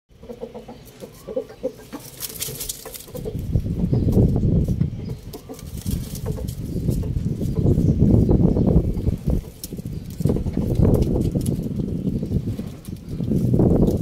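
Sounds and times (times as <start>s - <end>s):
chickens clucking: 0.1s - 14.0s.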